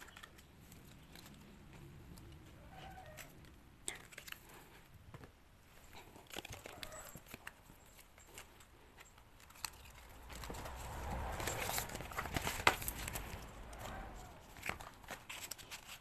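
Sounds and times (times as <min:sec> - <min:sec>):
packaging crinkling: 0:00.0 - 0:01.6, 0:03.0 - 0:16.0.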